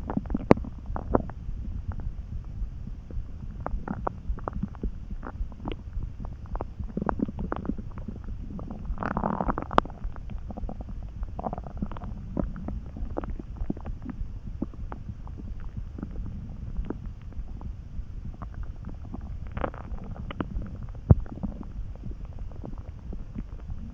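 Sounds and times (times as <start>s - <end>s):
stomach rumbling and gurgling: 0.0s - 23.9s.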